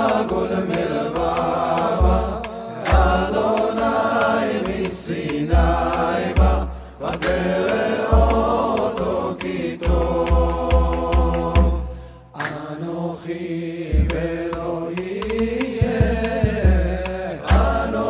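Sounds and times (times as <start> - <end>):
vocal ensemble chanting: 0.0 - 18.0.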